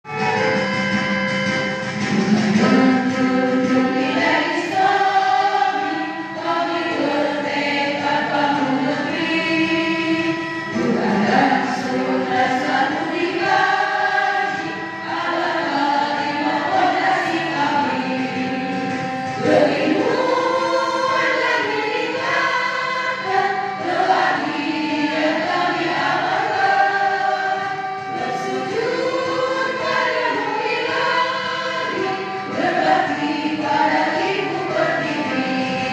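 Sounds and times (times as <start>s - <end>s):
musical accompaniment: 0.0s - 35.9s
group singing march song: 1.8s - 35.9s.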